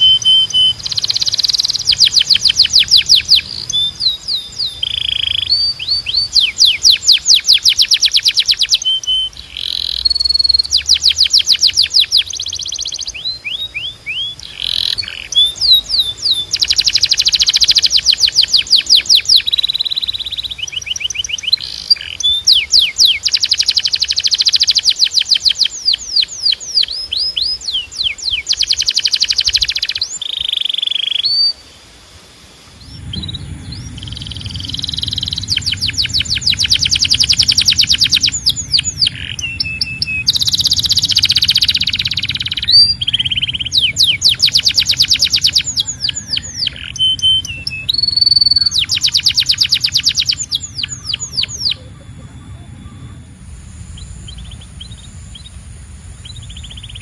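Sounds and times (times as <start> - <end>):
canary singing trills: 0.0 - 31.8, 32.7 - 57.0.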